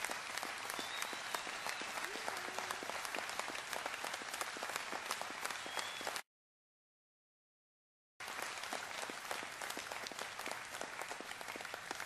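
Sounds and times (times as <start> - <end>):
audience applauding: 0.0 - 6.2, 8.2 - 12.0.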